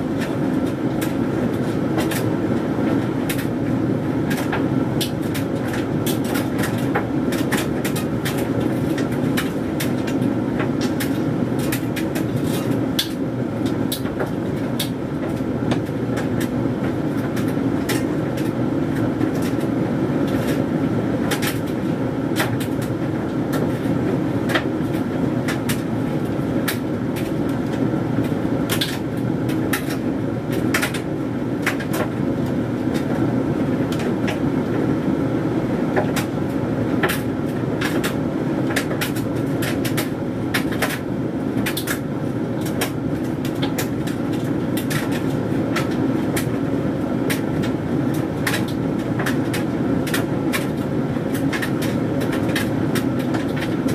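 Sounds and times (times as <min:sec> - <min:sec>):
tumble dryer drum rumbling: 0:00.0 - 0:53.9.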